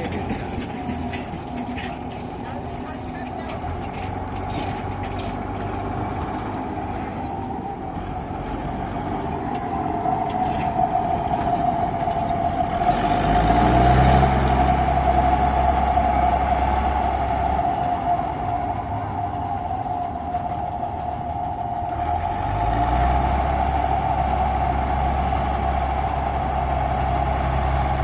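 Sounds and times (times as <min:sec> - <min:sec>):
combine harvester running: 0:00.0 - 0:28.0
high machinery whine: 0:00.0 - 0:28.0.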